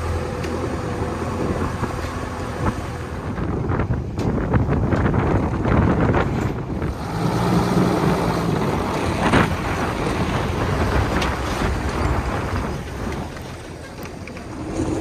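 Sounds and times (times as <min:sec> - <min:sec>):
diesel engine running under load: 0:00.0 - 0:15.0
wind buffeting microphone: 0:00.0 - 0:15.0.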